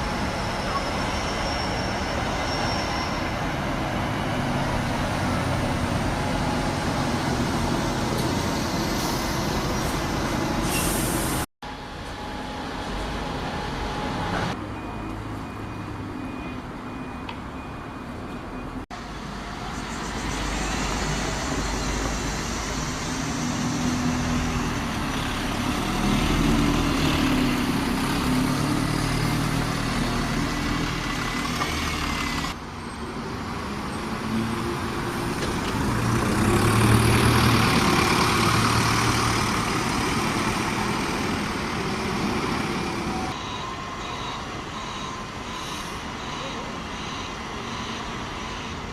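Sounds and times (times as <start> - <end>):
diesel bus engines passing: 0.0 - 48.9.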